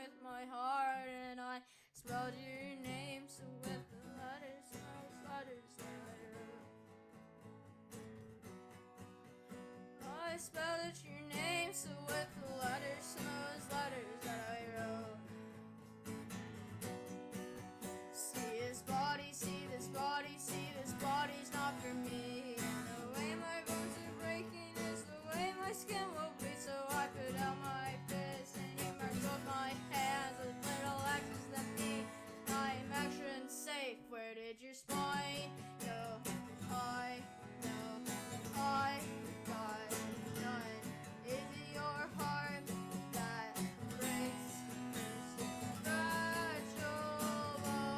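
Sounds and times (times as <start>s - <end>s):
person singing: 0.0s - 6.6s, 10.0s - 15.2s, 18.0s - 47.9s
strummed acoustic guitar: 2.0s - 34.3s, 34.9s - 47.9s.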